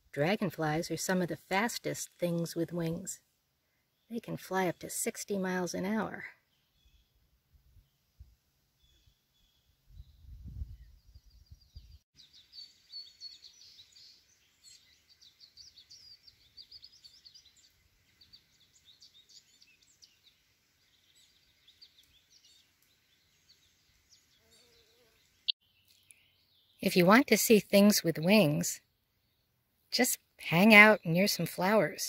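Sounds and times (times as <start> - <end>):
faint birdsong chirps: 0.0 - 32.0.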